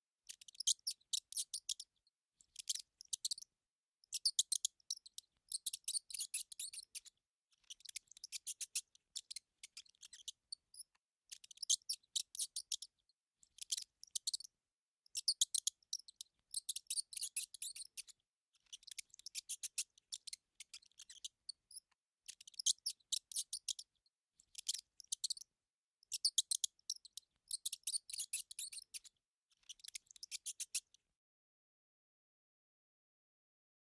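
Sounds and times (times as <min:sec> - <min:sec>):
mouse squeaking: 0:00.2 - 0:31.0.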